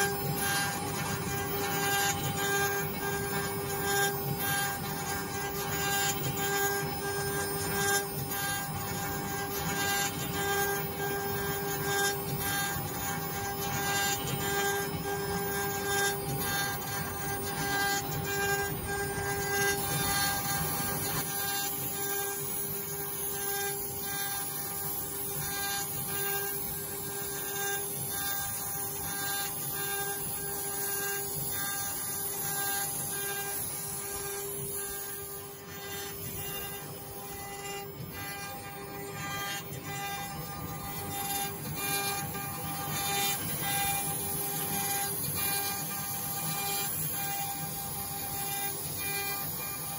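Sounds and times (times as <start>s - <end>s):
bit cutting wood ticking: 0.0s - 49.9s
router spindle high whine: 0.0s - 49.9s.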